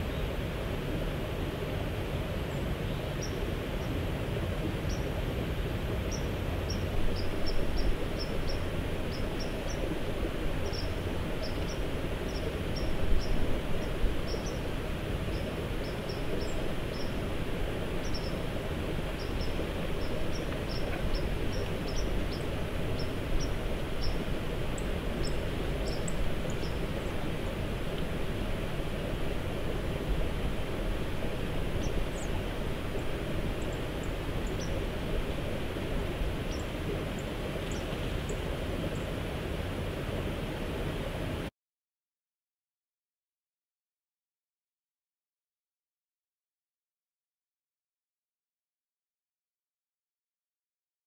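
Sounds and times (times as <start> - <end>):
outdoor low rumble and hiss: 0.0 - 41.5.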